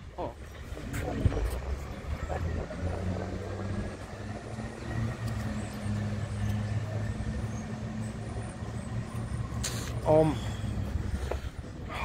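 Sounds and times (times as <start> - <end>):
distant vehicles rumbling: 0.0 - 12.0.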